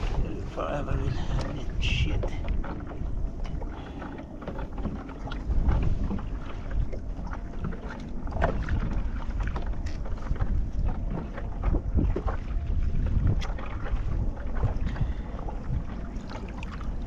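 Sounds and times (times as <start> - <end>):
water splashes: 0.0 - 17.0
wind buffeting microphone: 0.0 - 17.0.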